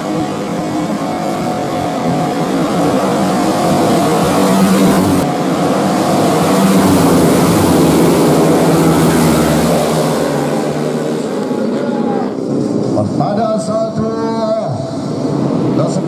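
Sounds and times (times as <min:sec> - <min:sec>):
motorcycles revving and accelerating: 0:00.0 - 0:16.0.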